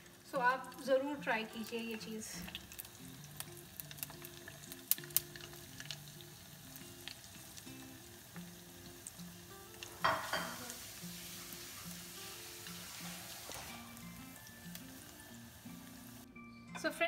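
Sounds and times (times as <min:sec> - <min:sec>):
food deep-frying in oil: 0:00.0 - 0:16.2
soft background music: 0:00.0 - 0:17.0.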